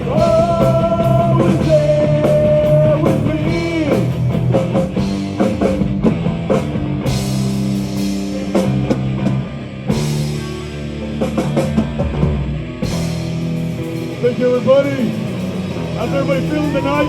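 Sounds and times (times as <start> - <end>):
live metal band playing: 0.0 - 17.0.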